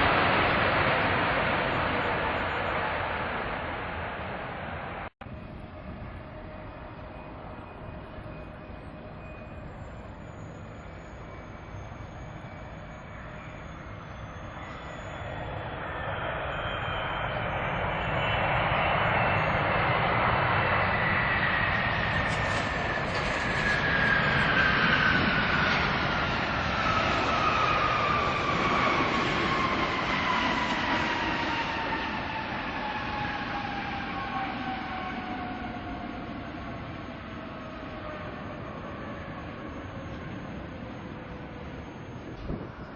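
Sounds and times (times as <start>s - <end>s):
jet airliner passing: 0.0s - 42.9s.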